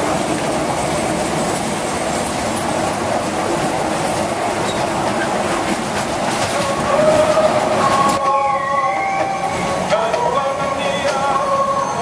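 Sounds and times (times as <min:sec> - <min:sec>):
miniature train rolling on track: 0:00.0 - 0:12.0.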